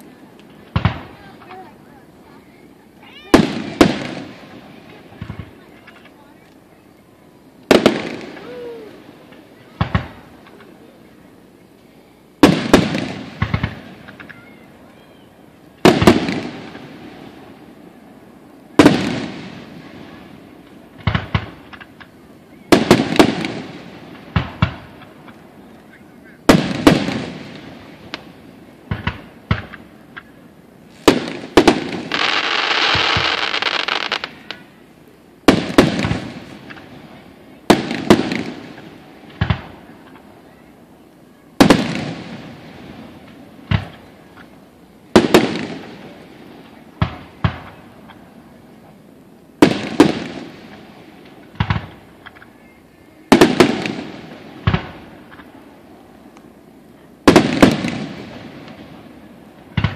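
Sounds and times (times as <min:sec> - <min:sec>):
fireworks booming: 0:00.0 - 0:06.8, 0:07.5 - 0:59.9
steady hiss: 0:00.0 - 0:59.9.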